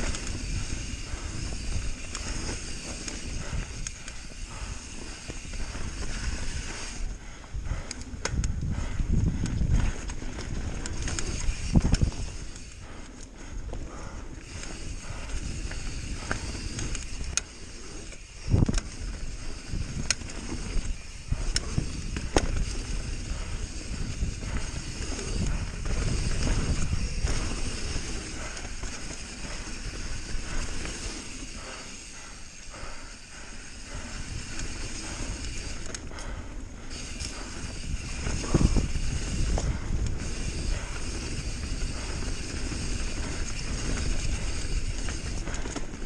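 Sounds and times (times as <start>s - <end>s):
wind on microphone: 0.0s - 13.0s, 14.8s - 31.6s, 33.8s - 46.0s
bike tyre rumble: 0.0s - 46.0s.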